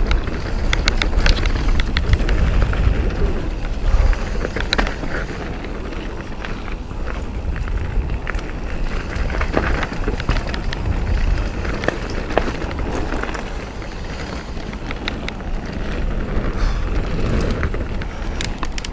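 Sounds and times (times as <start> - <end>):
bike clicks and rattles: 0.0 - 18.9
bike tyres crunching on gravel: 0.0 - 18.9
low rumble: 0.0 - 18.9.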